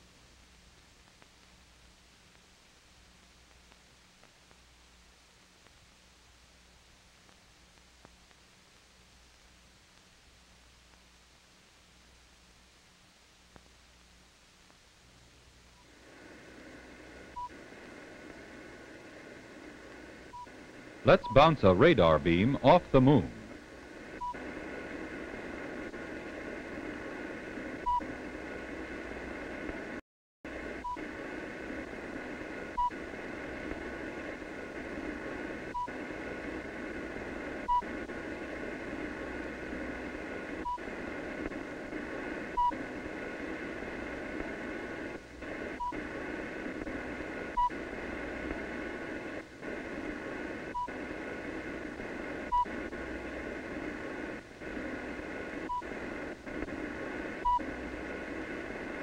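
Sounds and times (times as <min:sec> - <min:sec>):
film soundtrack hiss: 0:00.0 - 0:59.0.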